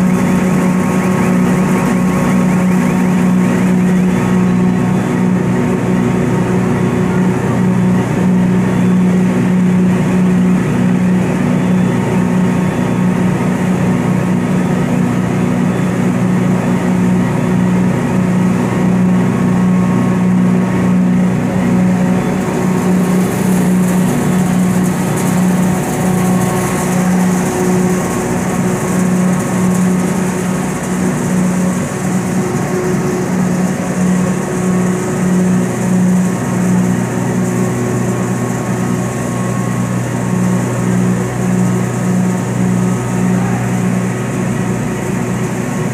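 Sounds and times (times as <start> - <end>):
grinding machines and blowers humming: 0.0 - 45.9.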